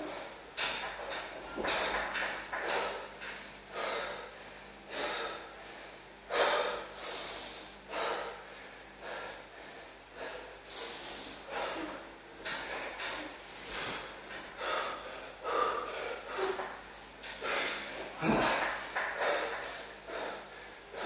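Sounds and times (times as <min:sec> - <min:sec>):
man breathing hard: 0:01.1 - 0:21.0.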